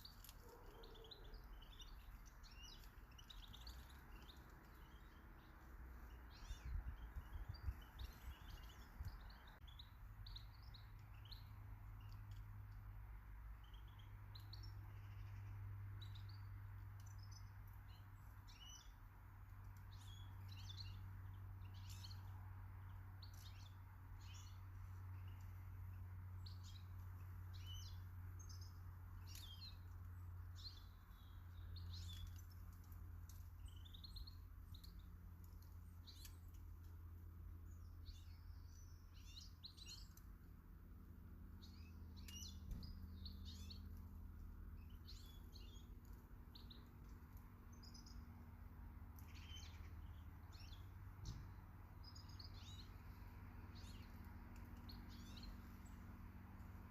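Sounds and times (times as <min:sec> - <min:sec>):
low steady hum: 0:00.0 - 0:56.9
small birds chirping: 0:00.0 - 0:56.9.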